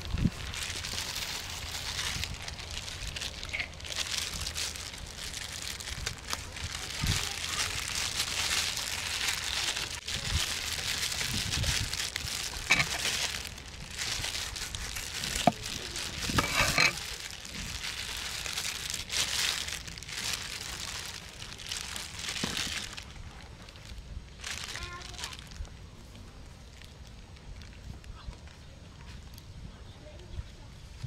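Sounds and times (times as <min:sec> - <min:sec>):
plastic glove crinkling: 0:00.0 - 0:27.9.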